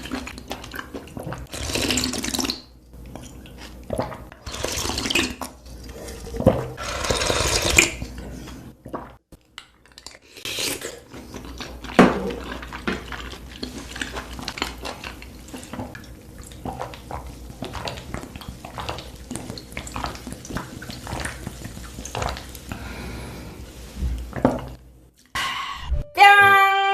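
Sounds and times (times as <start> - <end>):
person chewing wetly: 0.0 - 8.2, 8.8 - 22.8.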